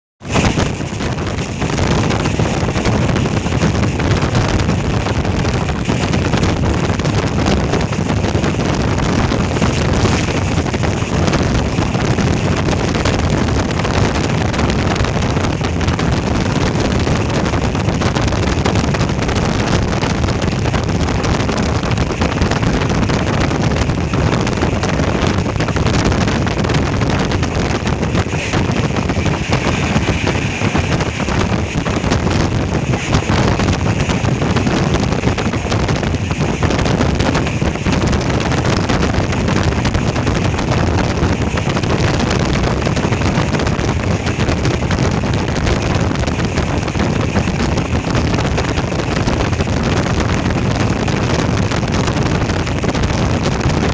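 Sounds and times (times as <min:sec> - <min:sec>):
wind buffeting microphone: 0:00.2 - 0:53.9.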